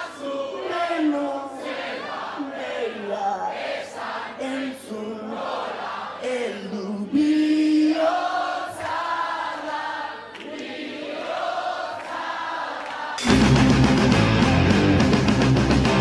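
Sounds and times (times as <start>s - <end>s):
people singing unaccompanied: 0.0s - 13.3s.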